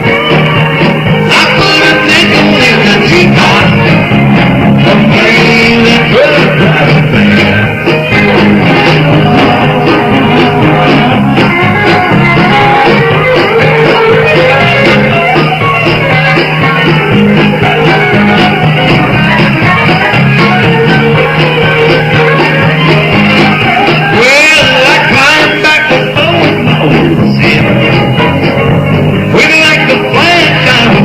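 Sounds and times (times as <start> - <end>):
country band playing: 0.0 - 31.0.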